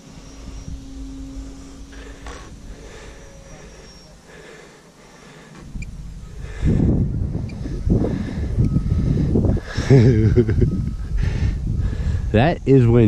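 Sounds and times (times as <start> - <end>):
wind buffeting microphone: 0.0 - 4.3, 5.6 - 13.0
electric motor whine: 0.0 - 12.3.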